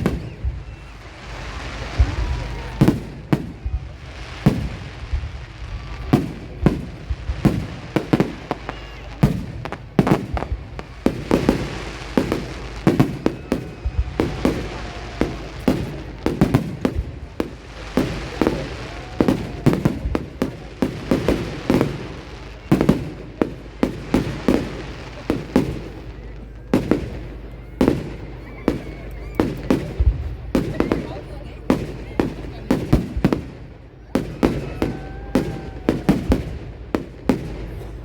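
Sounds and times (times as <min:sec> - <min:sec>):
firework bangs: 0:00.0 - 0:38.0
firework crackling: 0:00.0 - 0:38.0.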